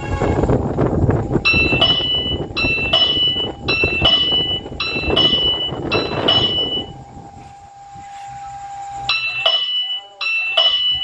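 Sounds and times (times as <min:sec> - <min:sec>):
faint steady hum: 0:00.0 - 0:11.0
railway signal bell ringing: 0:01.3 - 0:11.0.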